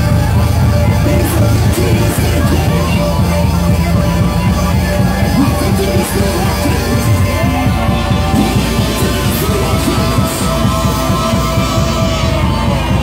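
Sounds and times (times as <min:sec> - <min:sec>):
church praise music: 0:00.0 - 0:13.0
fast steady drum beat: 0:00.0 - 0:13.0.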